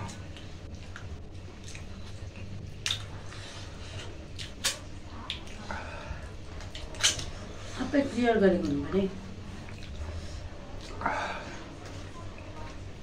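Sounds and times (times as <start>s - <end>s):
chewing: 0.0s - 7.8s, 8.6s - 13.0s
steady low hum: 0.0s - 13.0s.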